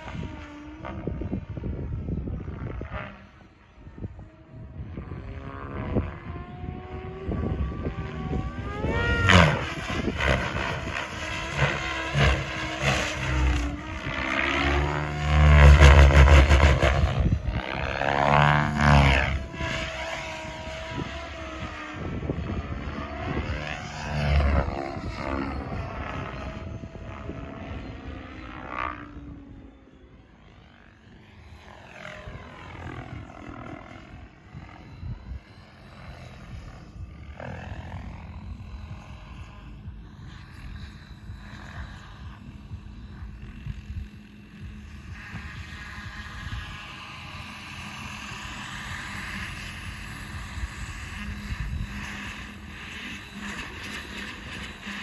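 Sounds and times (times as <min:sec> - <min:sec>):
rc helicopter rotor and motor whine: 0:00.0 - 0:55.0.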